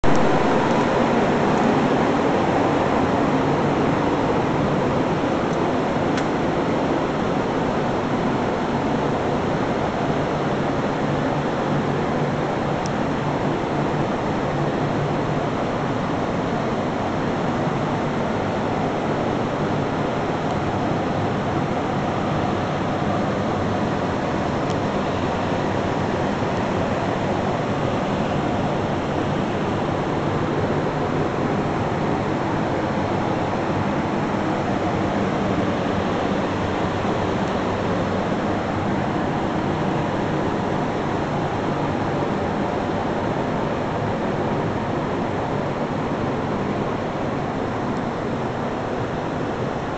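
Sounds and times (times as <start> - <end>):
ventilation fans rushing: 0.0 - 49.9.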